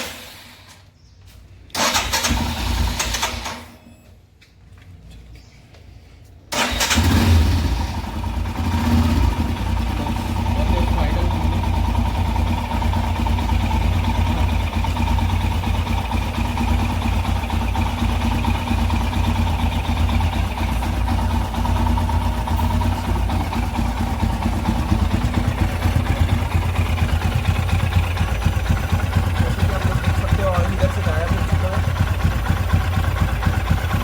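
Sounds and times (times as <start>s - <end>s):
motorcycle engine idling: 6.6s - 34.0s.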